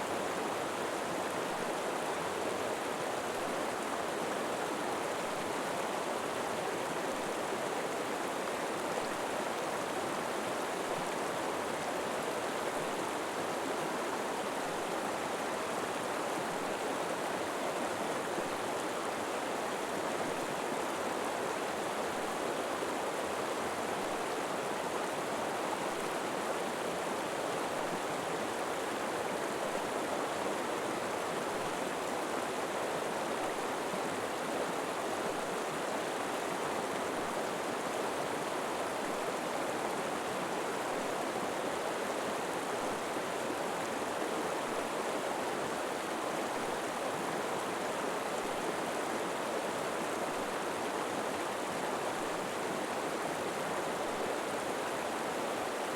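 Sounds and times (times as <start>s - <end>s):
river water flowing over rocks: 0.0s - 55.9s.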